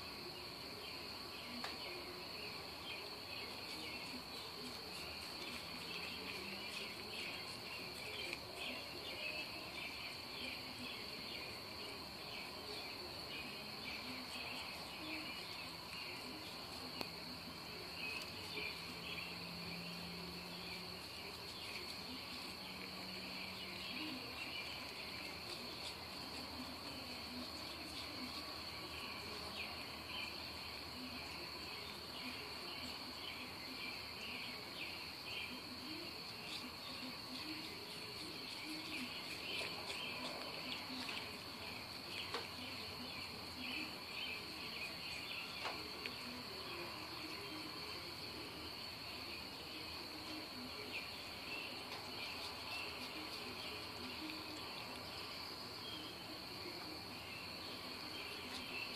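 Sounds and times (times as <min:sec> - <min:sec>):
insects trilling: 0:00.0 - 0:58.9
pulsing insect chirp: 0:00.0 - 0:58.9.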